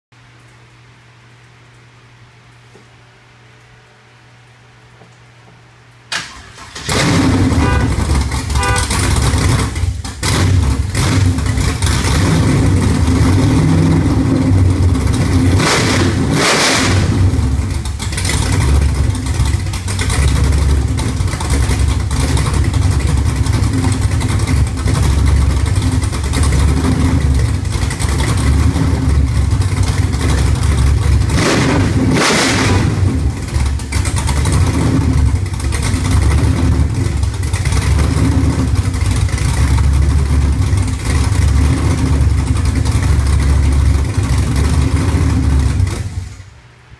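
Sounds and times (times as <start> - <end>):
car engine idling and revving: 6.1 - 46.7.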